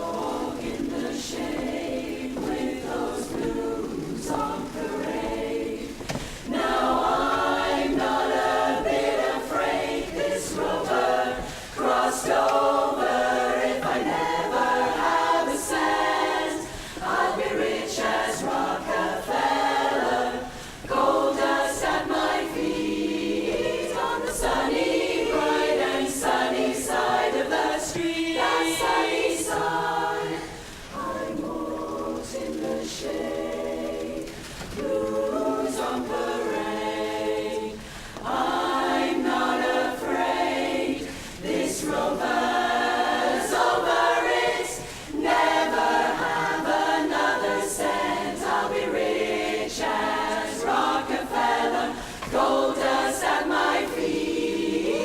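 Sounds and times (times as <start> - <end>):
women's chorus singing a cappella: 0.0 - 55.0.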